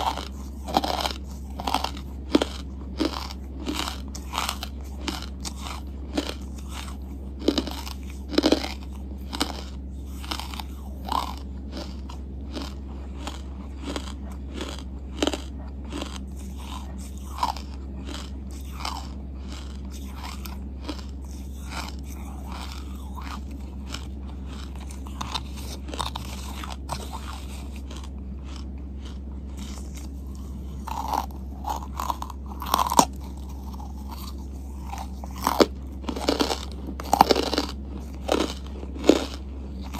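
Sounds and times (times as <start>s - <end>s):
chewing and crunching: 0.0s - 39.9s
low hum: 0.0s - 39.9s.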